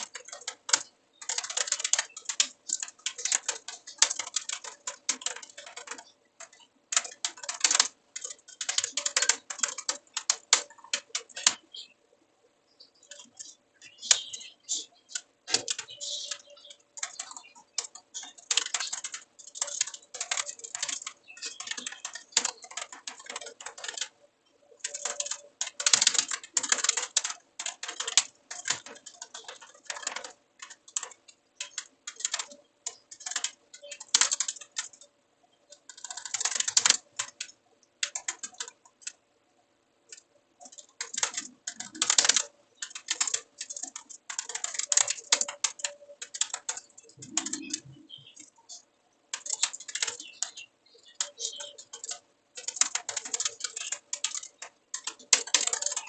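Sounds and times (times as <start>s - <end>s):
typing on keyboard: 0.0s - 11.9s, 13.0s - 39.2s, 40.1s - 56.0s.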